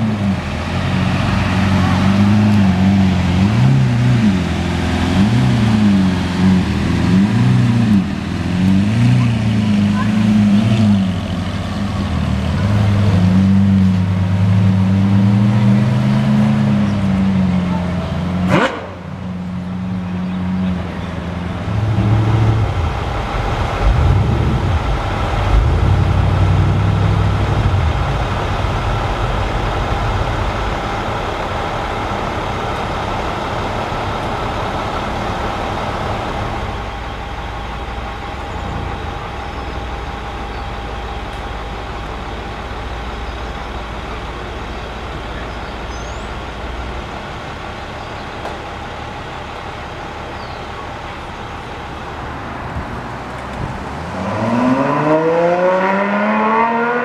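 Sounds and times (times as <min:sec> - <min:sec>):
low uneven engine rumble: 0:00.0 - 0:55.8
sports car engine at low revs: 0:00.0 - 0:57.0.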